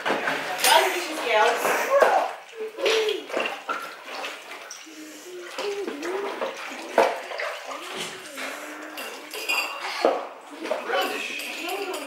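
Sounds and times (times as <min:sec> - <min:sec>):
dishes being washed: 0:00.0 - 0:12.0.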